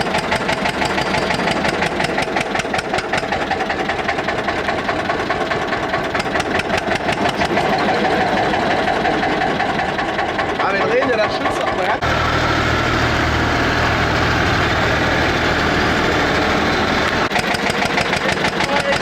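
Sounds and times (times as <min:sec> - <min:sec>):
tractor diesel engine knocking: 0:00.0 - 0:19.0.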